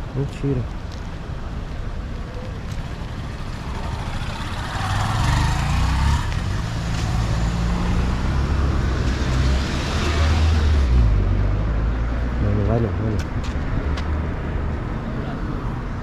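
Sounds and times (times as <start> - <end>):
road traffic passing: 0.0 - 16.0
vehicle engine rumble: 0.0 - 16.0.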